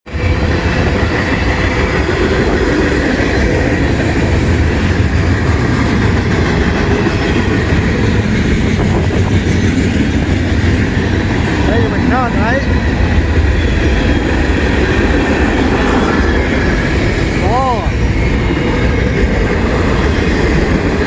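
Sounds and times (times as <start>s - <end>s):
freight train rolling on rails: 0.0s - 21.0s.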